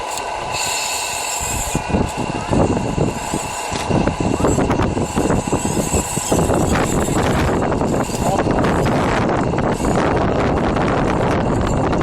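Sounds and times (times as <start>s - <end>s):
model vehicle motor whine: 0.0s - 12.0s
rough rumbling noise: 0.0s - 12.0s.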